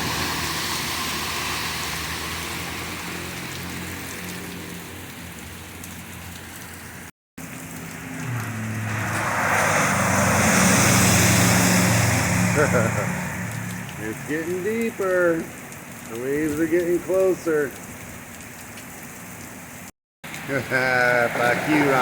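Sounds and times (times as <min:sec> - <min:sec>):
vehicle engine: 0:00.0 - 0:17.4, 0:20.2 - 0:22.0
heavy rain pouring: 0:00.0 - 0:22.0
vehicles driving through water: 0:00.0 - 0:22.0.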